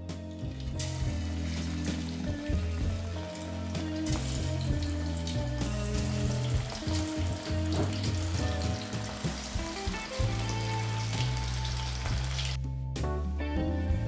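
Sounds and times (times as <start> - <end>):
food sizzling in hot oil: 0.4 - 12.6.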